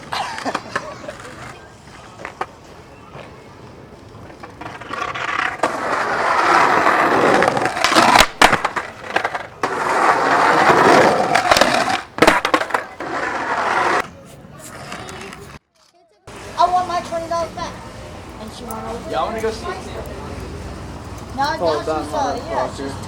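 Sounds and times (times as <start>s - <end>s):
skateboard clacking: 0.0s - 15.6s, 16.3s - 22.7s
skateboard wheels rolling: 0.0s - 15.6s, 16.3s - 23.0s.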